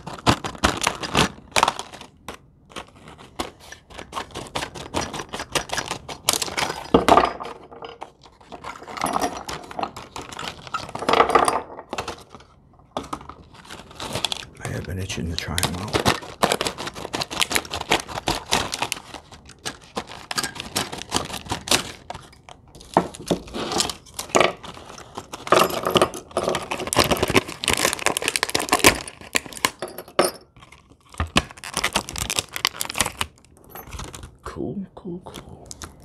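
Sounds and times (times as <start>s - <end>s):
plastic blister pack crinkling: 0.0s - 7.0s, 8.0s - 11.1s, 11.9s - 29.8s, 30.5s - 34.4s, 35.3s - 36.0s.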